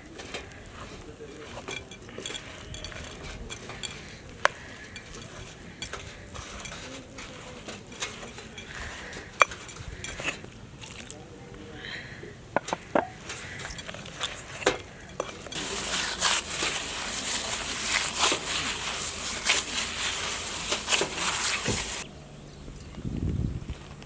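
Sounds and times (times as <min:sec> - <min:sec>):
dough crackling and rustling: 0:00.0 - 0:11.5, 0:12.5 - 0:22.1.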